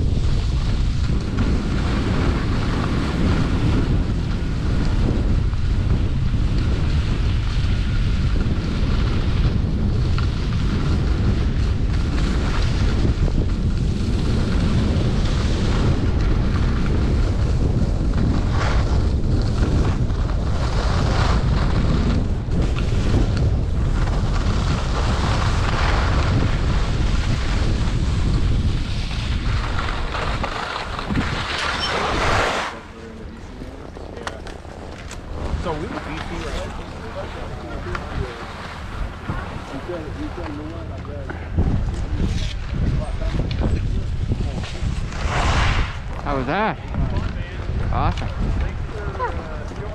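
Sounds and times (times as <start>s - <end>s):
skis scraping over snow: 0.0s - 49.9s
wind buffeting microphone: 0.0s - 49.9s.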